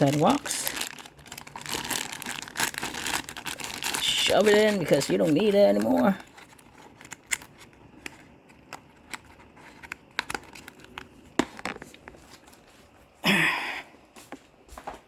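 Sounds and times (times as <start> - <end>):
packaging clicks and crinkles: 0.0 - 13.2.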